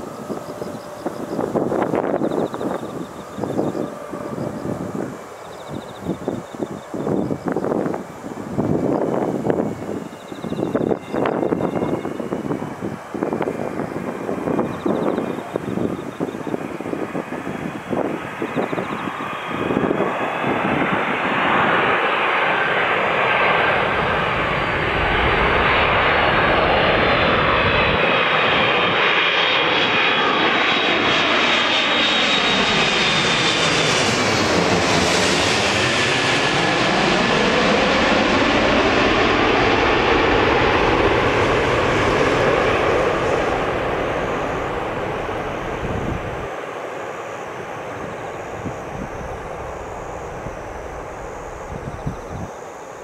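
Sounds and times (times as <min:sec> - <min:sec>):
airliner engines whining overhead: 0:00.0 - 0:53.0.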